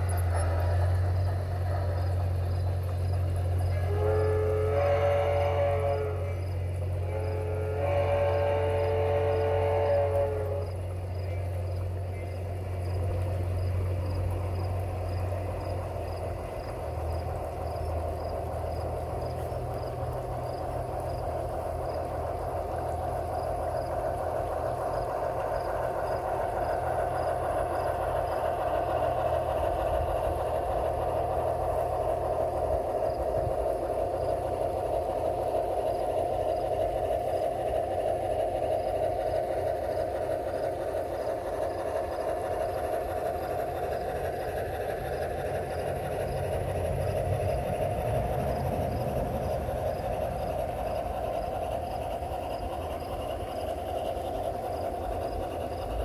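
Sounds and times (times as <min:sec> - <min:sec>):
model train wheels rumbling: 0:00.0 - 0:56.0.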